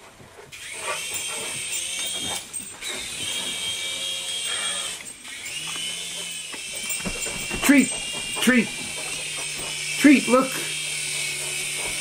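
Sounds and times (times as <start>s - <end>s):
toy helicopter whining: 0.5s - 12.0s.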